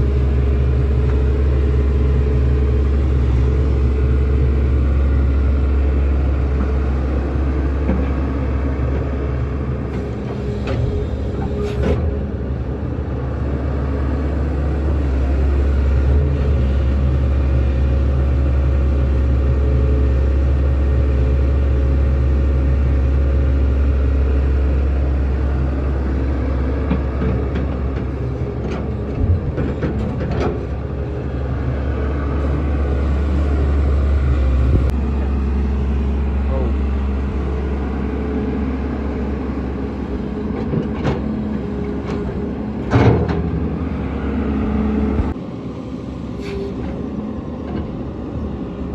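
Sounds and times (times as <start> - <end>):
diesel machinery rumbling: 0.0 - 48.9.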